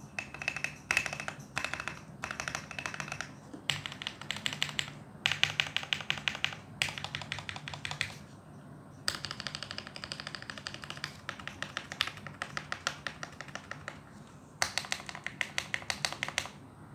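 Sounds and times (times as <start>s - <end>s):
fast typing on mechanical keyboard: 0.0s - 8.2s, 9.1s - 16.6s.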